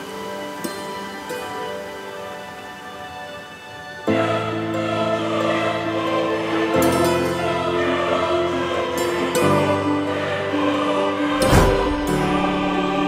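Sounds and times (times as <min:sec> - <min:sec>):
choir-like held chords: 0:00.0 - 0:13.0.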